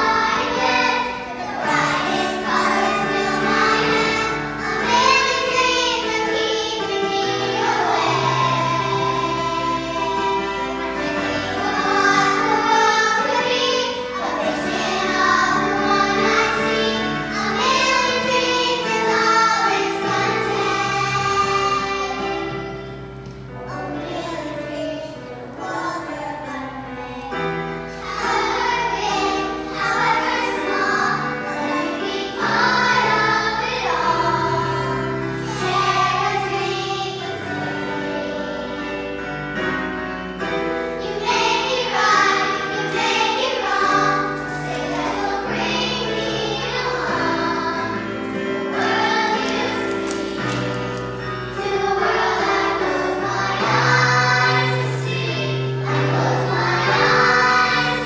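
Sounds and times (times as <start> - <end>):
children singing together: 0.0 - 58.0
instrumental accompaniment: 0.0 - 58.0.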